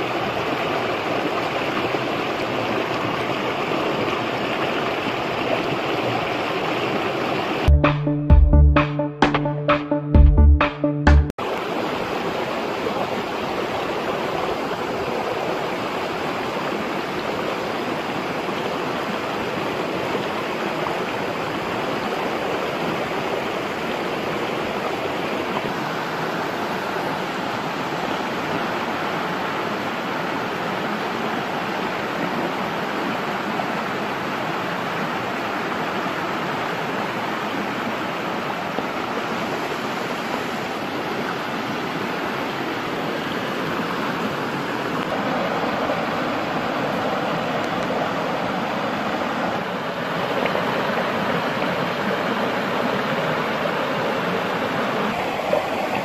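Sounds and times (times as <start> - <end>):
stream rushing over rocks: 0.0 - 7.7, 11.4 - 56.0.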